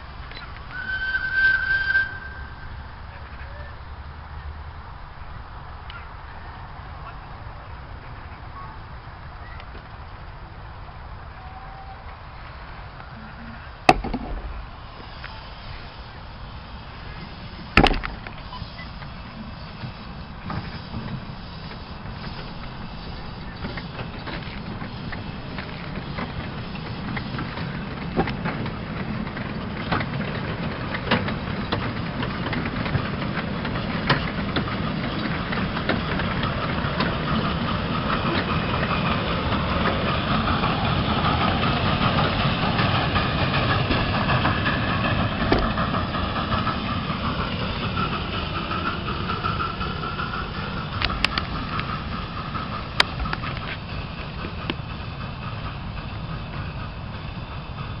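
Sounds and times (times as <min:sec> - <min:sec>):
wheels rumbling on rails: 0:00.0 - 0:58.0
steam hissing: 0:11.4 - 0:58.0.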